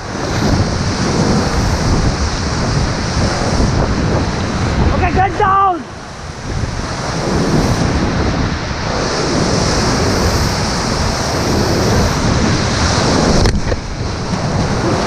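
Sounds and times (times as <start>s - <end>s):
whitewater rushing: 0.0s - 15.0s
wind buffeting microphone: 0.0s - 15.0s.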